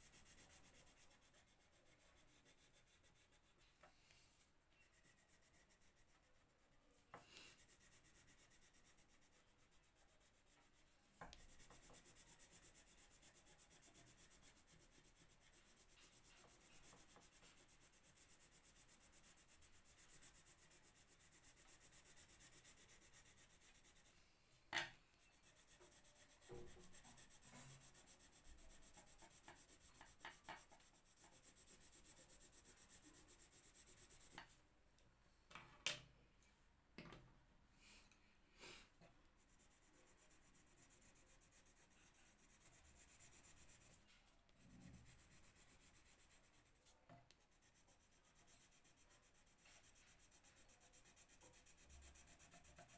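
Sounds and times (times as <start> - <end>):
pencil scratching on paper: 0.0 - 24.2, 25.2 - 34.5, 39.4 - 52.9.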